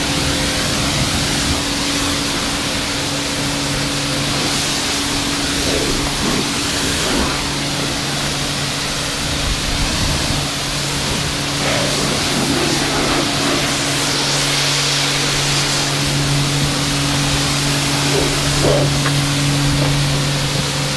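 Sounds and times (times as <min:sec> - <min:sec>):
pressure washer motor hum: 0:00.0 - 0:20.9
water jet spraying: 0:00.0 - 0:20.9.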